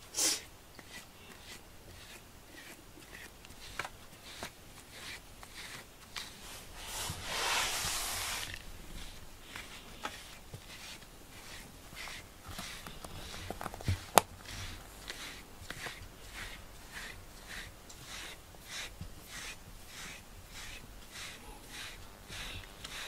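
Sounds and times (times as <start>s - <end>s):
hand stroking cat fur: 0.8s - 23.0s.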